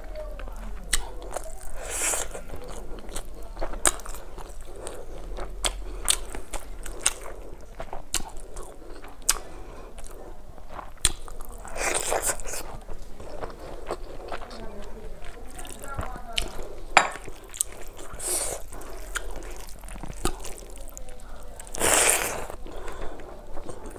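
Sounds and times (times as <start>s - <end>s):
chewing and biting food: 0.0s - 23.9s
food crunching: 0.0s - 23.9s.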